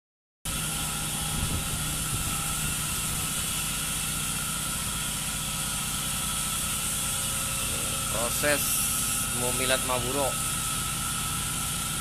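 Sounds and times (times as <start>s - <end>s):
boat engine droning: 0.5s - 12.0s.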